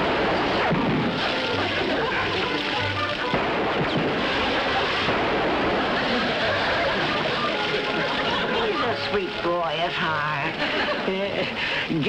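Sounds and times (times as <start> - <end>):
thick liquid pouring and splattering: 0.0 - 10.6.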